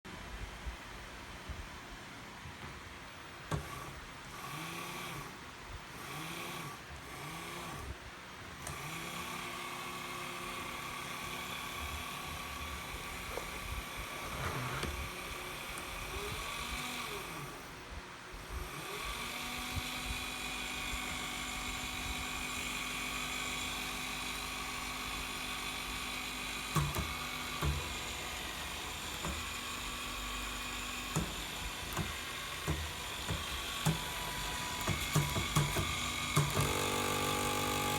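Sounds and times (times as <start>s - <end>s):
milling machine motor whine: 3.5s - 8.0s, 8.6s - 37.9s.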